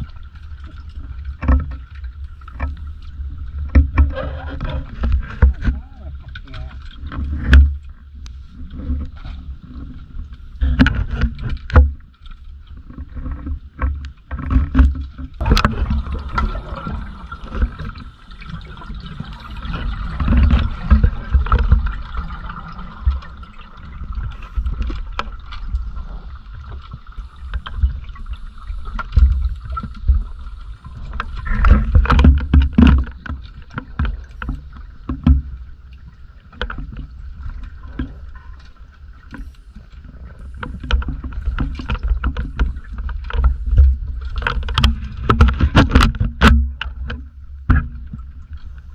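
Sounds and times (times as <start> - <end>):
underwater rumbling and thumps: 0.0 - 48.9.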